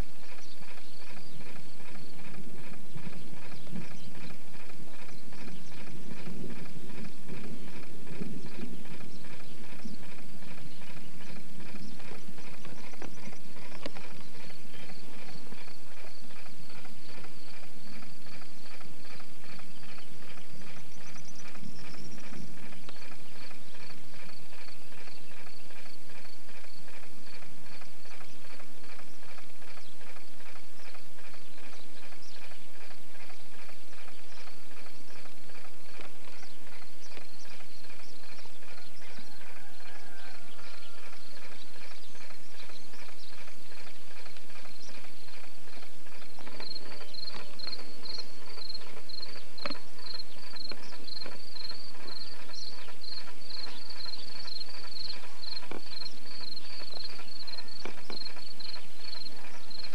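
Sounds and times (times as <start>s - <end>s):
horse hooves clopping on road: 0.2s - 59.9s.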